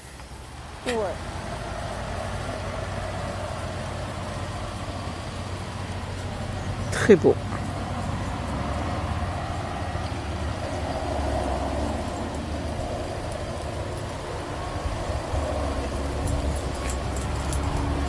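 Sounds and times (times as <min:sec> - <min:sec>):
reeds and leaves rustling: 0:00.0 - 0:18.0
wind buffeting microphone: 0:01.5 - 0:18.0.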